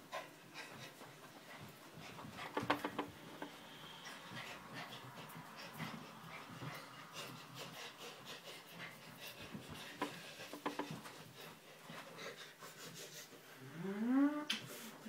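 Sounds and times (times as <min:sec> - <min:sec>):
puppy breathing: 0:00.0 - 0:13.6.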